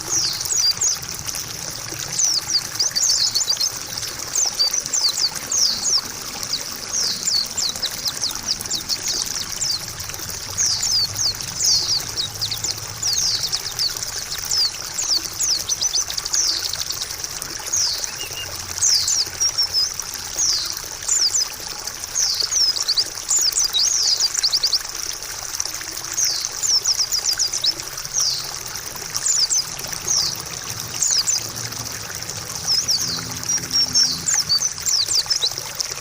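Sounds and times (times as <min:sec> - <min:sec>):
bird chirps and trills: 0:00.0 - 0:25.0, 0:26.1 - 0:36.0
trickling water: 0:00.0 - 0:36.0.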